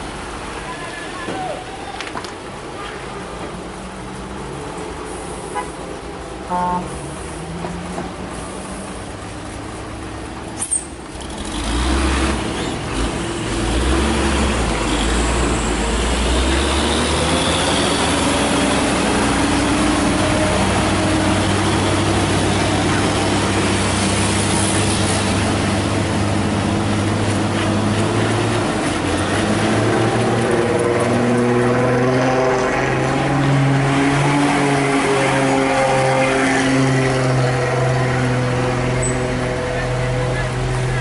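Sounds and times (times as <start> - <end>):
truck diesel engine straining: 4.4 - 41.0.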